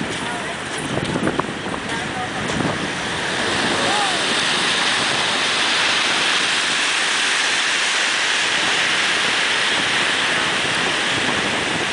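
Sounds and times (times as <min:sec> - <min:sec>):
ocean surf breaking: 0:00.0 - 0:11.9.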